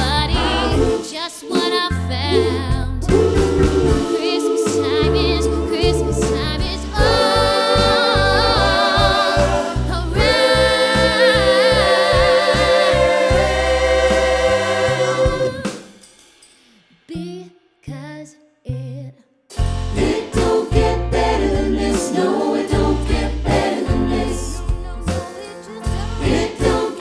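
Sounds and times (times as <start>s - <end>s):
rhythmic bass accompaniment: 0.0s - 15.9s, 19.6s - 27.0s
choir singing: 0.0s - 16.0s, 19.9s - 27.0s.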